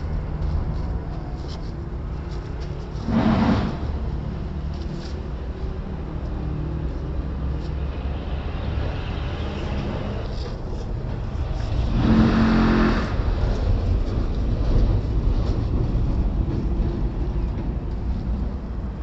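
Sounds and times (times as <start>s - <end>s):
machinery engine rumble: 0.0s - 19.0s.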